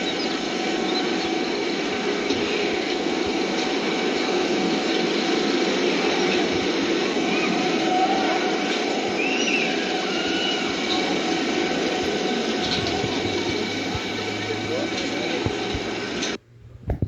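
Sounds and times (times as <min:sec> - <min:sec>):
amusement ride mechanical rumble: 0:00.0 - 0:17.0.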